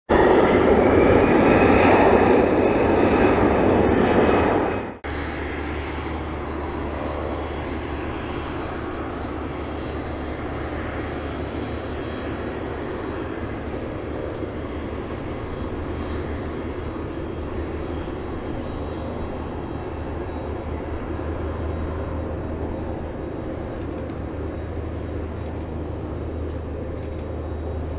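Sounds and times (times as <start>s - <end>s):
jet engines idling whine: 0.1s - 27.9s
jet roar: 0.1s - 27.9s.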